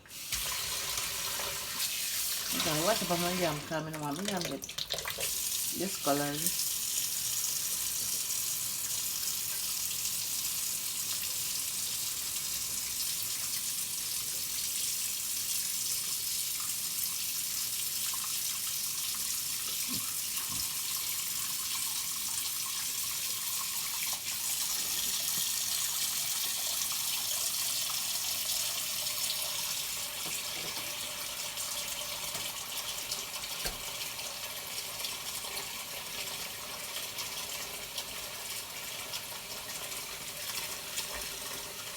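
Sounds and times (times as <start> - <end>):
tap water running into sink: 0.0 - 41.9.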